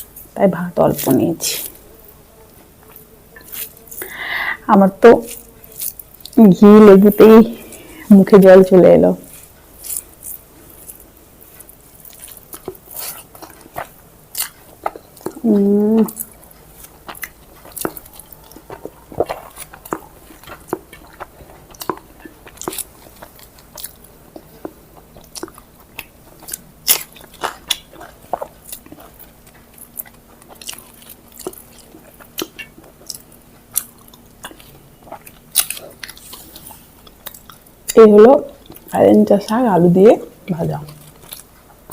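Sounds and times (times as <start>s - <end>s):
wet chewing: 0.0s - 41.9s.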